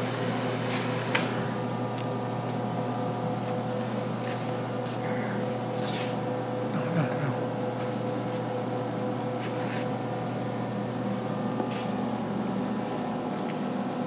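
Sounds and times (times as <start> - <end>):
industrial machine hum: 0.0 - 14.0.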